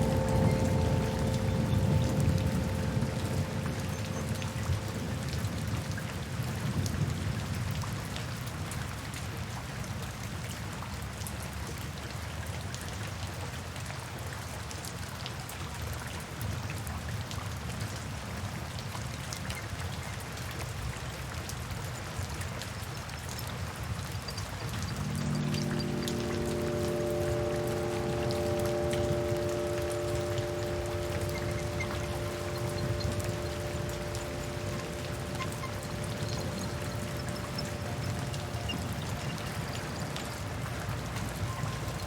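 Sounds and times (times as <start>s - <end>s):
raindrops ticking on surfaces: 0.0s - 42.0s
steady rain falling: 0.0s - 42.0s.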